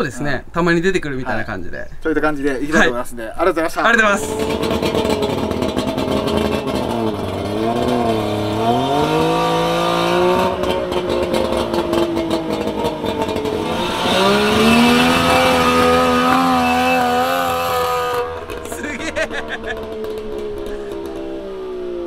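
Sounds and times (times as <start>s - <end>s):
engine revving under load: 3.8s - 22.0s.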